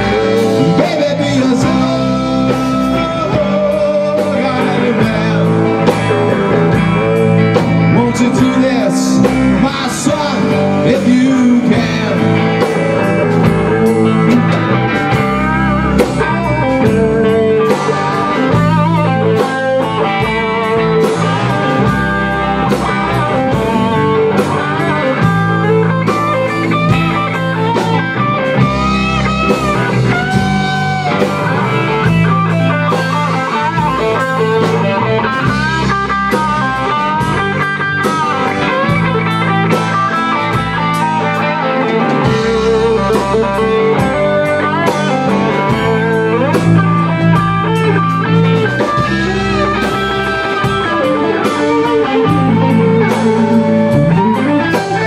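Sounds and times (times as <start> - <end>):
lead guitar bending notes: 0.0 - 55.0
rock band playing: 0.0 - 55.0
steady drum beat: 0.0 - 55.0.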